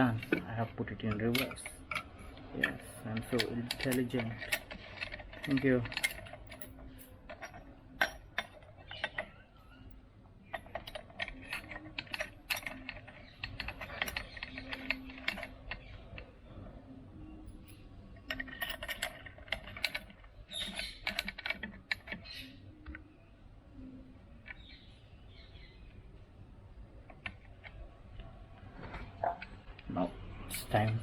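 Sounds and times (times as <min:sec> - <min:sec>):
metal clamp clinking and rattling: 0:00.0 - 0:23.0, 0:27.0 - 0:31.0.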